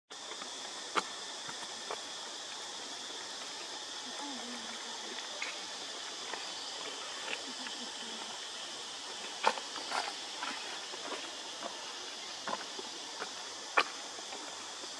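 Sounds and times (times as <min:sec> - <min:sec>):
insects buzzing: 0:00.1 - 0:14.9.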